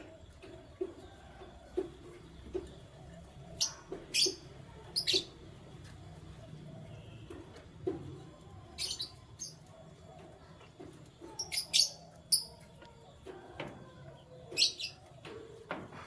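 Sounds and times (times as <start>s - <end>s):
canary chirping: 2.4s - 15.2s.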